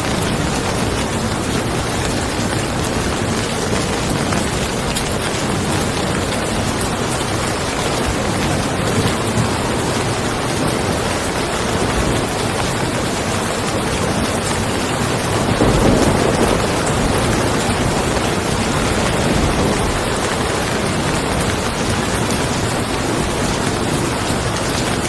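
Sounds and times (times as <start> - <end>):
rain falling on a car: 0.0 - 25.0
thunder rumbling: 0.0 - 25.0.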